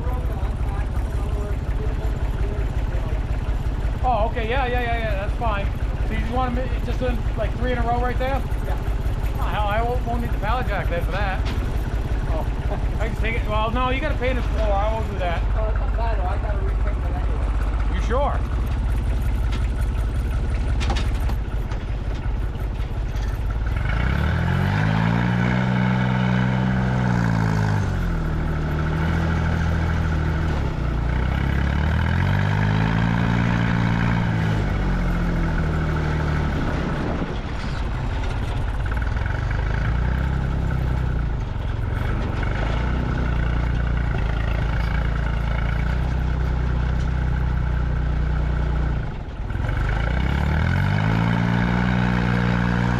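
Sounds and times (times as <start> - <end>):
vehicle engine revving with clatter: 0.0 - 52.9.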